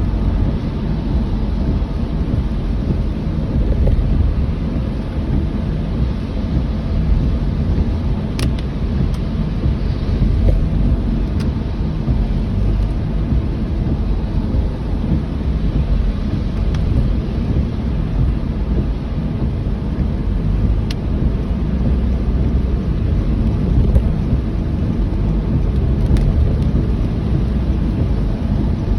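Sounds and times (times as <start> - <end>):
deep rumble: 0.0 - 28.9
heavy rain: 0.0 - 28.9.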